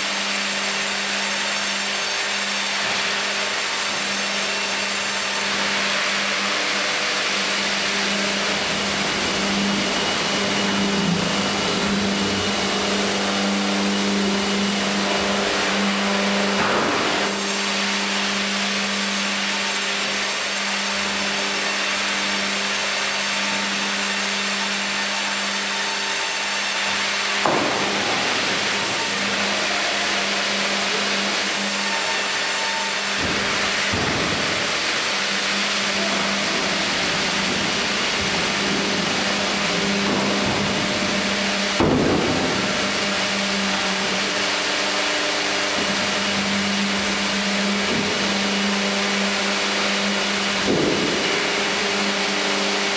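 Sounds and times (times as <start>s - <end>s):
band saw cutting a log: 0.0s - 52.9s.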